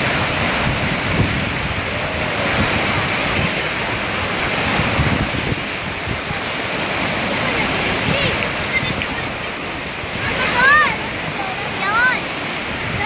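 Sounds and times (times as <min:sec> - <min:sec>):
surf breaking and churning: 0:00.0 - 0:13.0
wind buffeting microphone: 0:00.0 - 0:13.0.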